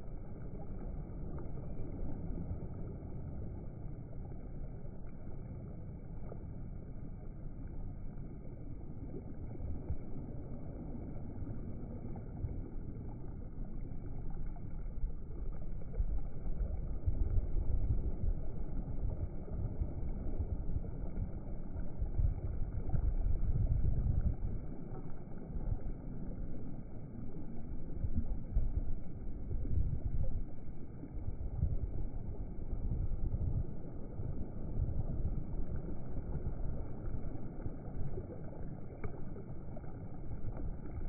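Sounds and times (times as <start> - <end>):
low rumbling noise: 0.0 - 41.0.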